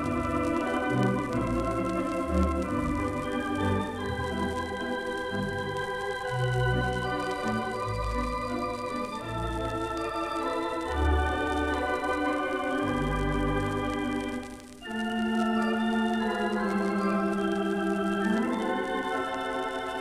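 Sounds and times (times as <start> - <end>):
theatre pipe organ chords: 0.0 - 20.0.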